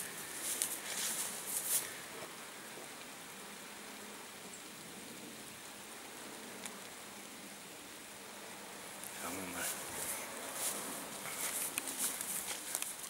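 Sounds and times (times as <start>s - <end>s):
light rain on foliage: 0.0s - 13.0s.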